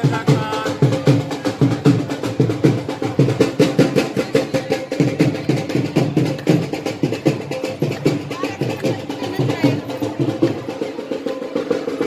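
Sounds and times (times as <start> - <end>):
drums playing fast rhythm: 0.0 - 12.0.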